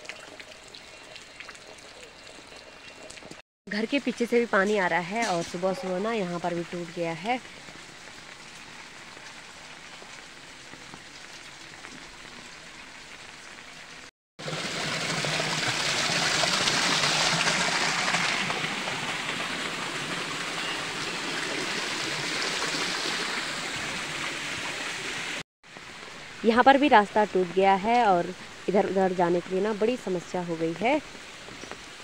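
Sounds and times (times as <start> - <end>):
light rain falling: 0.0 - 14.1, 17.0 - 32.0
rainwater rushing over stone steps: 0.0 - 32.0.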